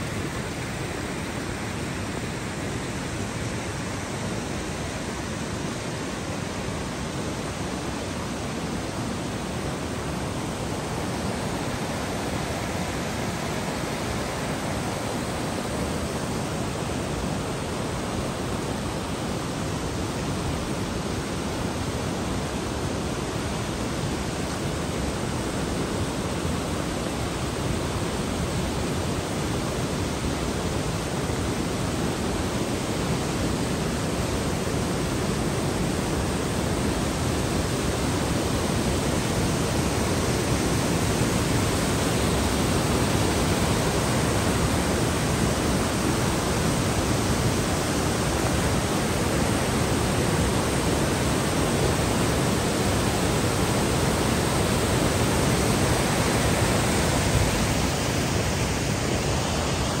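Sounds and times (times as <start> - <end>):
waterfall rushing: 0.0 - 60.0.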